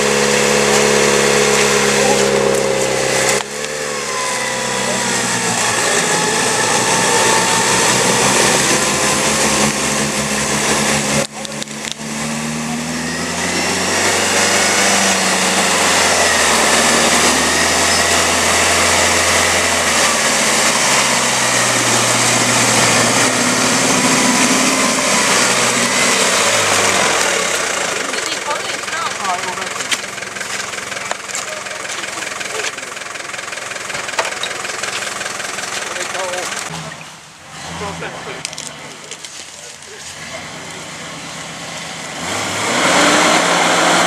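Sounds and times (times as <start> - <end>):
high whine: 0.0 - 37.0
off-road vehicle engine revving: 0.0 - 44.0.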